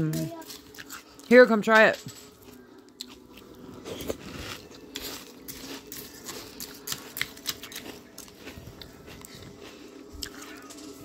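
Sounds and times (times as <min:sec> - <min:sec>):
cereal crunching while chewed: 0:00.3 - 0:01.3, 0:02.4 - 0:11.0.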